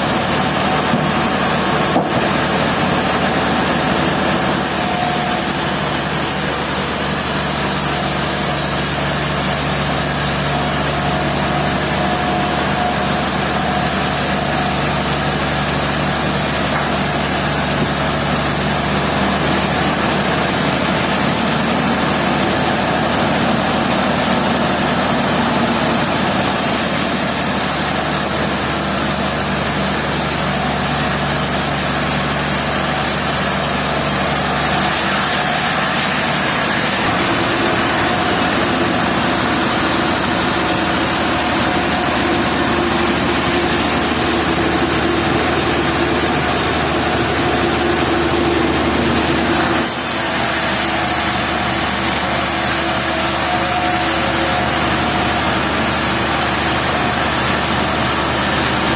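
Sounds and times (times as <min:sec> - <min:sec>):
sawmill machinery engine drone: 0:00.0 - 0:58.9.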